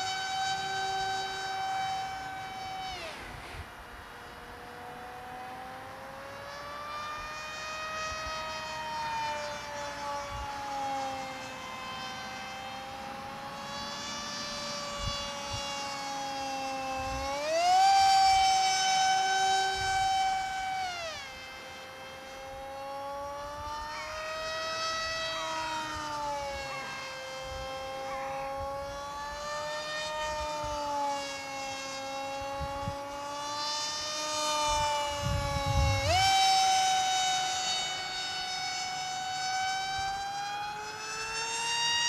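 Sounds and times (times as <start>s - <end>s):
model jet electric motor whining: 0.0s - 42.0s.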